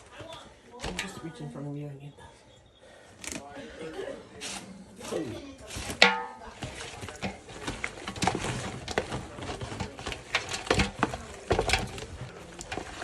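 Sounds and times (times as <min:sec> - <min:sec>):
containers and utensils clattering: 0:00.0 - 0:01.8, 0:03.2 - 0:13.0.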